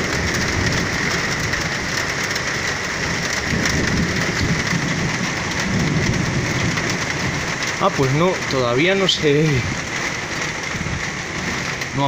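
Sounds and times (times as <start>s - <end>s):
torrential rain on pavement: 0.0s - 12.0s.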